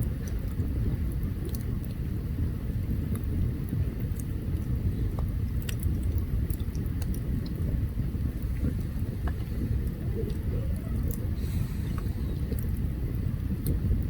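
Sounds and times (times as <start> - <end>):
campfire crackling and popping: 0.0 - 14.0
low rumble of fire: 0.0 - 14.0.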